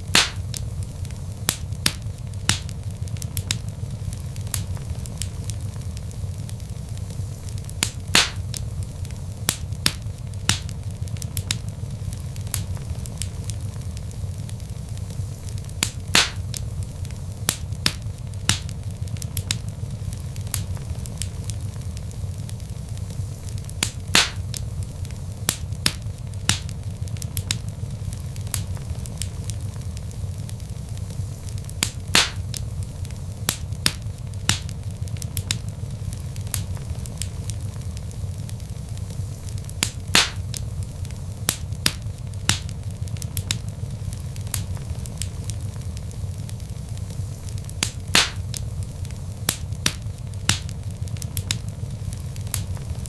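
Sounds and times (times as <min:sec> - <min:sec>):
log fire crackling and popping: 0:00.0 - 0:53.0
low rumble of flames: 0:00.0 - 0:53.0.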